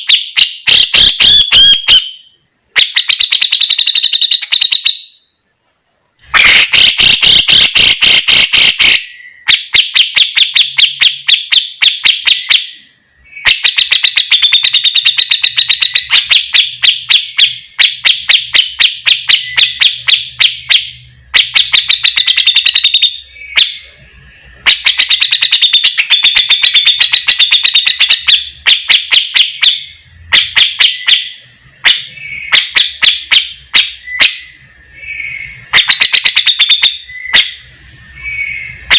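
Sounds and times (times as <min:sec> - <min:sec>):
bulbul singing: 0:00.0 - 0:05.4, 0:06.2 - 0:38.9.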